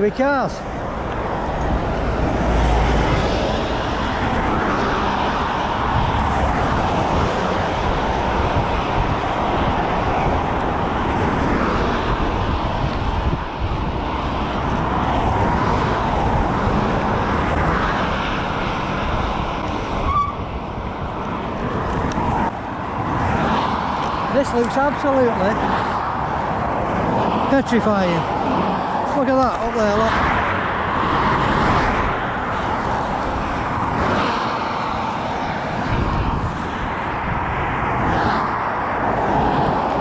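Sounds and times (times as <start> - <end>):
road traffic: 0.0 - 40.0
wind blowing on microphone: 0.3 - 40.0.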